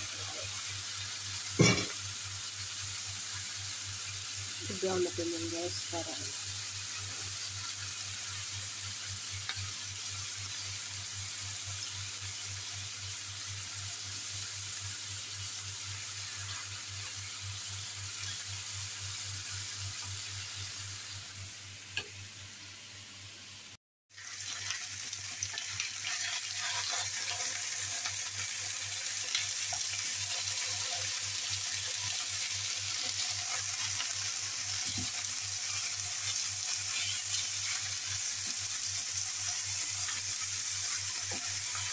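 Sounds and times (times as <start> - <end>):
meat sizzling in a pan: 0.0 - 41.9.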